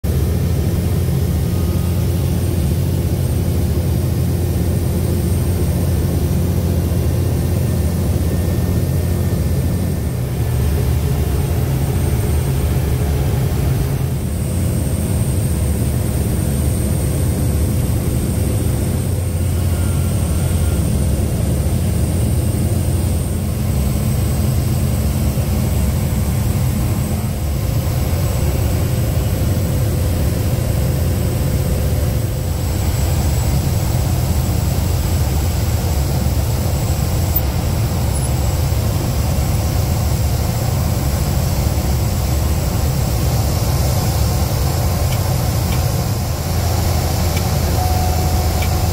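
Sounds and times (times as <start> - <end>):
propeller airplane engine drone: 0.0 - 48.9.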